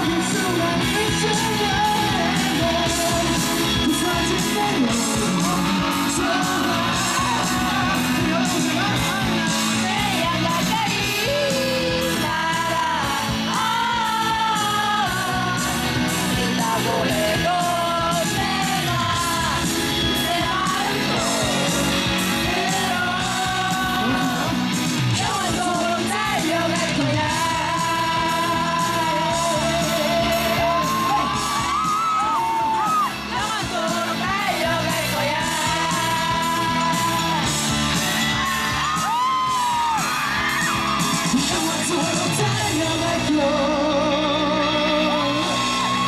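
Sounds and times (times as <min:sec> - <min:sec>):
steady drum beat: 0:00.0 - 0:43.2
live rock band: 0:00.0 - 0:46.0
person singing: 0:00.0 - 0:46.0.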